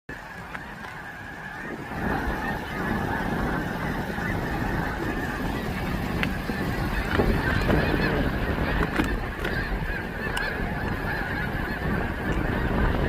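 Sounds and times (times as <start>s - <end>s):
geese honking in flight: 0.1s - 13.0s.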